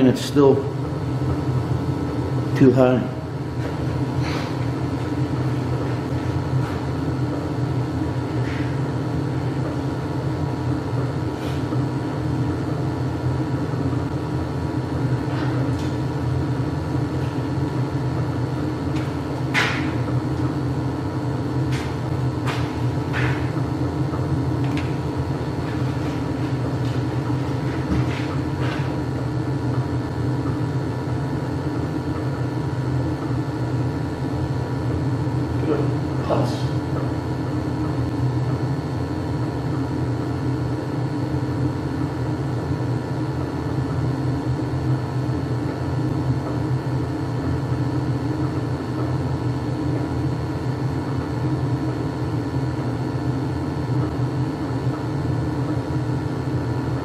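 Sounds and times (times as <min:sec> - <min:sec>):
boiler humming: 0:00.0 - 0:57.0.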